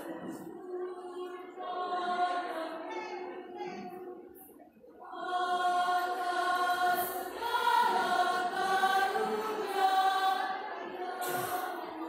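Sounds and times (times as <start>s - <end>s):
women's choir singing: 0.0s - 12.0s.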